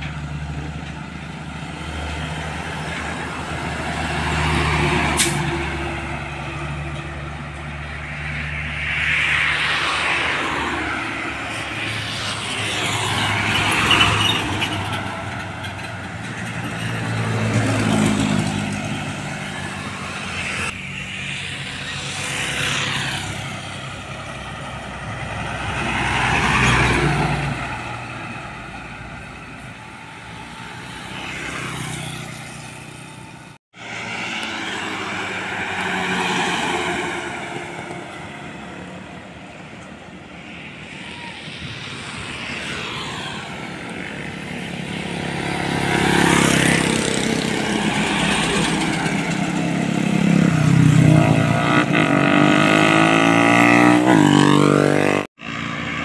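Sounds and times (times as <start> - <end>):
trucks and cars passing: 0.0 - 56.0.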